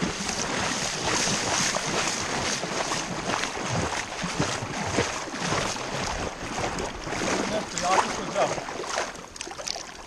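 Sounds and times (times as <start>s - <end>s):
sea water washing at shoreline: 0.0s - 10.0s.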